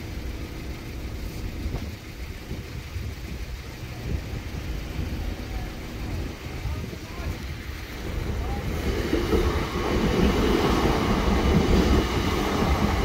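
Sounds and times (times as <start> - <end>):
vehicles rumbling: 0.0 - 13.0.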